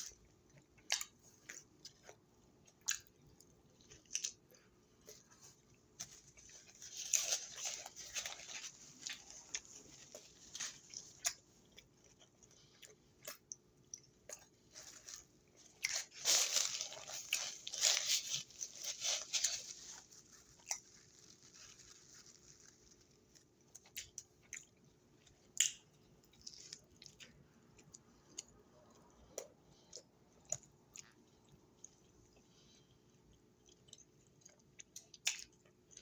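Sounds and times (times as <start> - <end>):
person chewing and crunching: 0.0 - 36.0.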